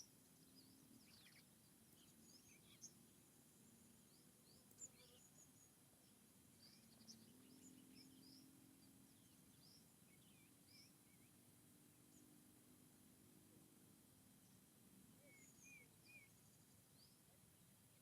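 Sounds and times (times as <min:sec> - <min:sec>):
birds chirping: 0:00.0 - 0:12.2, 0:14.4 - 0:18.0
faint low hum: 0:00.0 - 0:18.0.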